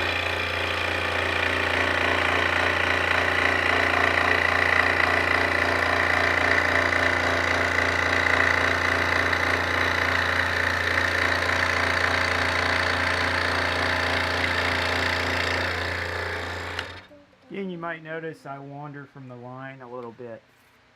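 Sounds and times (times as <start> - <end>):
scroll saw cutting wood: 0.0 - 17.1.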